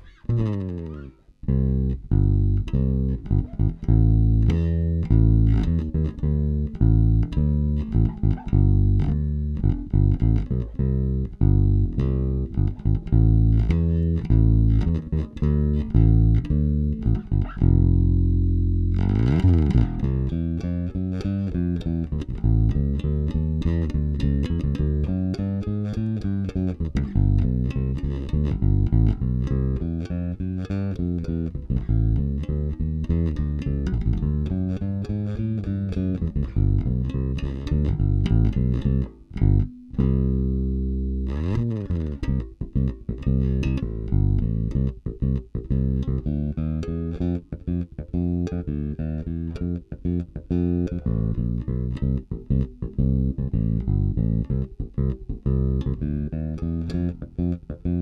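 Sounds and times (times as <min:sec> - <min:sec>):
plucked bass guitar notes: 0:00.0 - 0:58.0.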